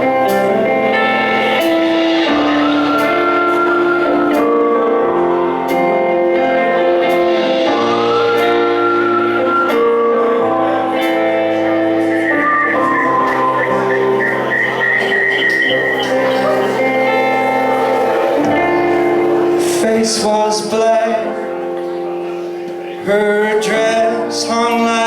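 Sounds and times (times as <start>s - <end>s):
sustained chords: 0.0s - 23.3s
high sliding melody line: 0.0s - 23.4s.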